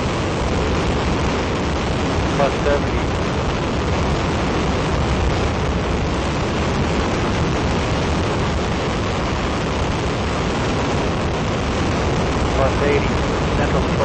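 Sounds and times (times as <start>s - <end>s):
rocket motor rumbling: 0.0s - 14.0s.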